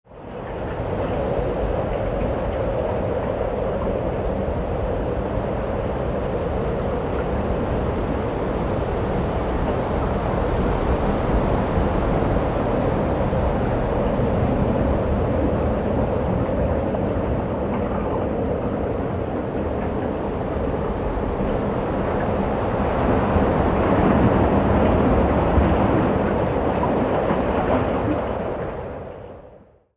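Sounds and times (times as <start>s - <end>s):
strong wind blowing: 0.1s - 29.8s
wind rumble on microphone: 0.1s - 29.8s.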